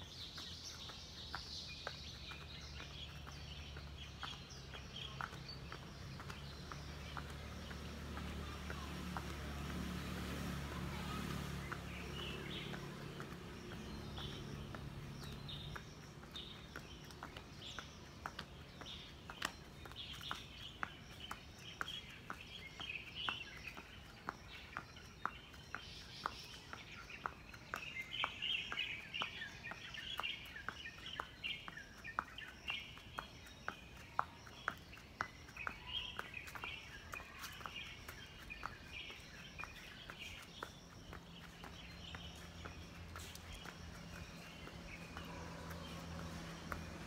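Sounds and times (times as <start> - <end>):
birds chirping: 0.0 - 47.0
sneakers scuffing on paving bricks: 0.0 - 47.0.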